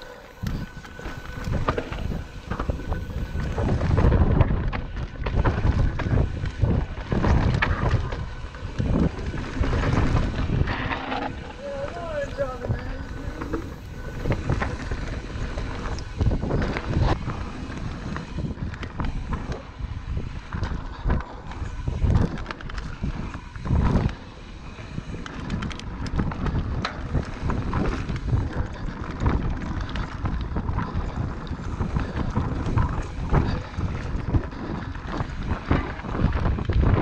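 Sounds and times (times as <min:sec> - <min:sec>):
bike rattling over bumps: 0:00.0 - 0:37.0
tyre noise on dirt: 0:00.0 - 0:37.0
wind buffeting microphone: 0:00.0 - 0:37.0.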